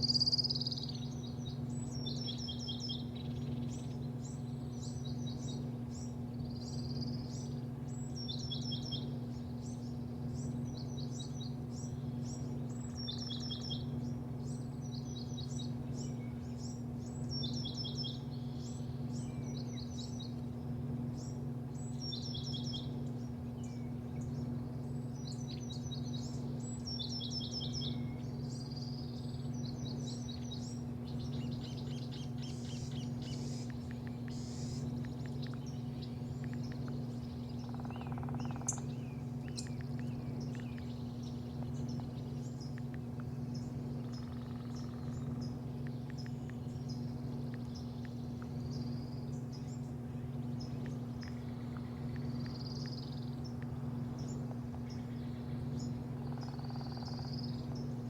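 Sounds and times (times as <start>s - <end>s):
low mechanical hum: 0.0s - 58.0s
small birds chirping: 0.0s - 58.0s.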